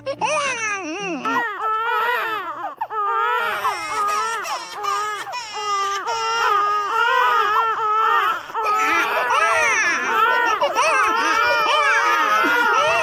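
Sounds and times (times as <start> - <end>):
newborn baby crying: 0.0 - 13.0.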